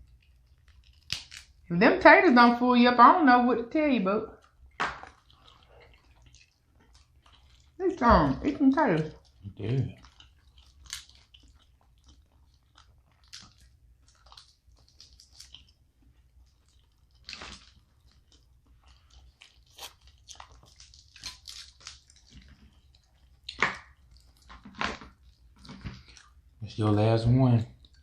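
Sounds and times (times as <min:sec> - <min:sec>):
person chewing with crunches: 0:00.0 - 0:01.7, 0:04.4 - 0:28.0.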